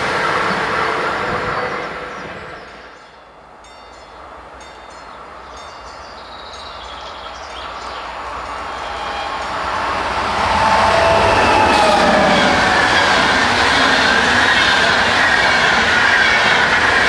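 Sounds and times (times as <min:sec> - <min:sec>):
locomotive-hauled train approaching: 0:00.0 - 0:17.0
passenger train rumbling on rails: 0:00.0 - 0:17.0.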